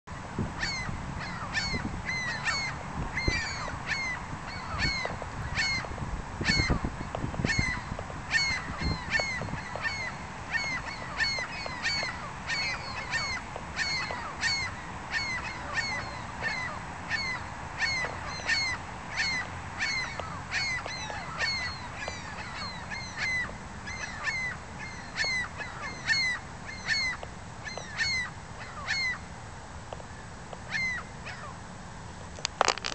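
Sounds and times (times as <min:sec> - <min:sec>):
gulls calling: 0:00.6 - 0:29.3, 0:30.7 - 0:31.6, 0:32.5 - 0:32.9.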